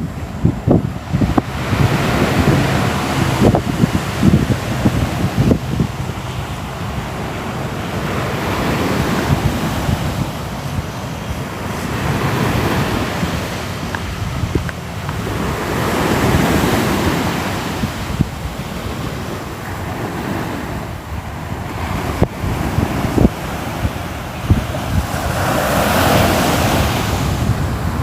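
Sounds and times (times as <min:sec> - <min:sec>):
ocean waves rolling in: 0:00.0 - 0:28.0.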